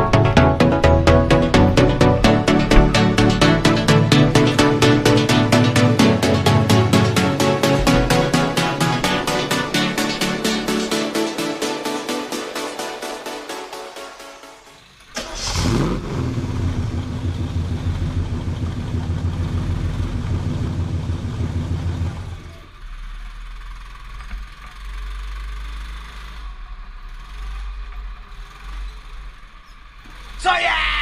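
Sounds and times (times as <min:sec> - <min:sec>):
go-kart engine running: 0:00.0 - 0:13.5, 0:14.5 - 0:31.0.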